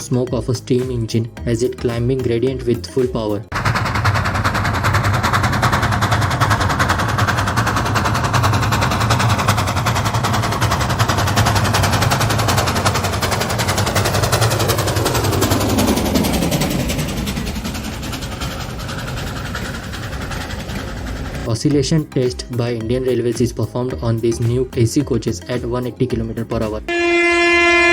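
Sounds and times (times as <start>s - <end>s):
steam locomotive chuffing: 0.0s - 27.9s.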